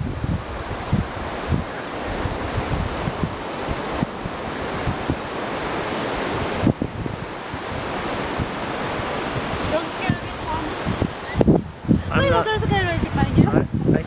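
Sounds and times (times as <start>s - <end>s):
surf rushing: 0.0s - 14.0s
wind buffeting microphone: 0.0s - 14.0s.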